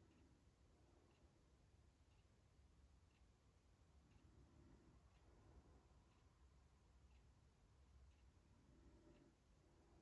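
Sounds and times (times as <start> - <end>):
soft ticks: 0.0 - 10.0.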